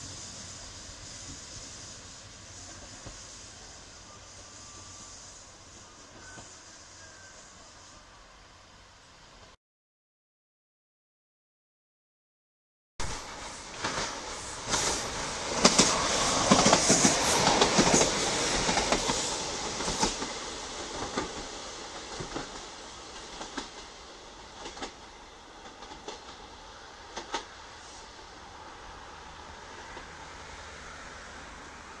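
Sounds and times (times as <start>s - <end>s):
train wheel and rail noise: 0.0s - 9.6s, 13.0s - 32.0s.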